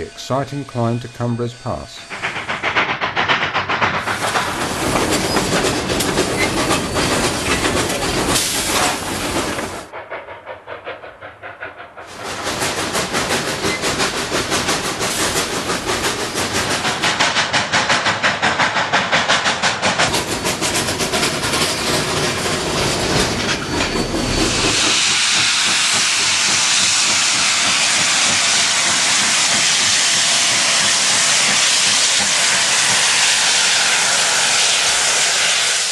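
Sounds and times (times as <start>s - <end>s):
steam locomotive chuffing: 0.0s - 35.9s
loud hiss of steam: 1.7s - 35.9s.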